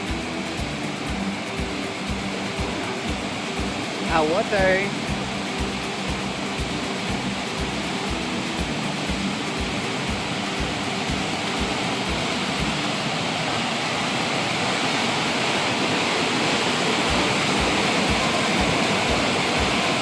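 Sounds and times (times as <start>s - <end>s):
water rushing through dam gates: 0.0s - 20.0s.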